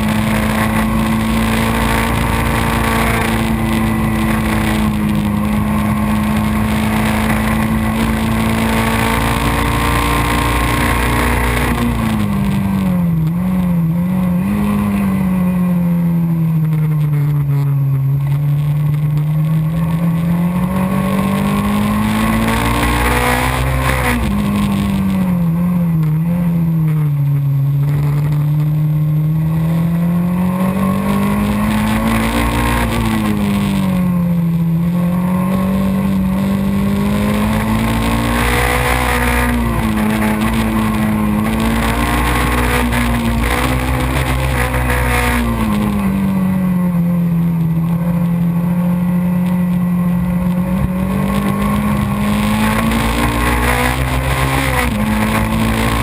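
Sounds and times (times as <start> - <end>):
race car engine: 0.0 - 56.0
wind and road noise: 0.0 - 56.0.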